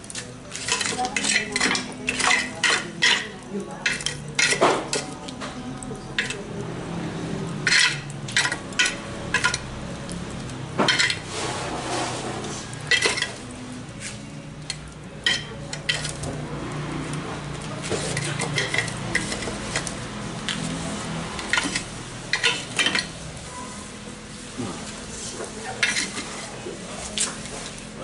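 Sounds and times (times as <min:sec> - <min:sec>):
metal tongs clinking on charcoal: 0:00.0 - 0:06.7, 0:07.4 - 0:11.4, 0:12.3 - 0:20.7, 0:21.3 - 0:23.9, 0:25.2 - 0:27.8.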